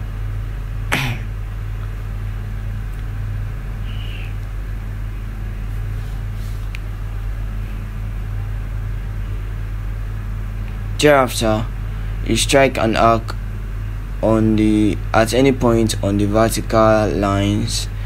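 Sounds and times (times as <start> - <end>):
low hum with faint rumble: 0.0 - 18.0.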